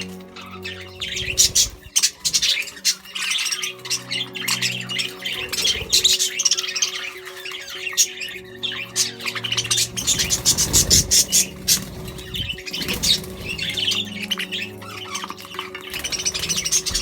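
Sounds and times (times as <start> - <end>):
budgerigars chattering and squawking: 0.0 - 17.0.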